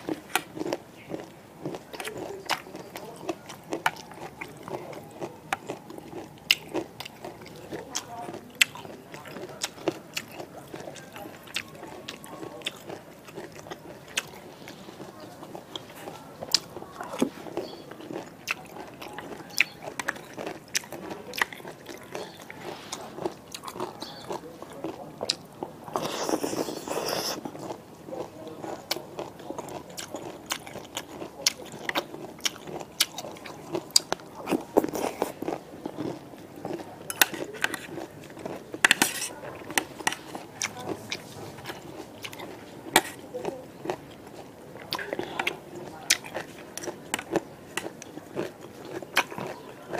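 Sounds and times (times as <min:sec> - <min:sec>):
chewing and crunching vegetables: 0:00.0 - 0:49.9.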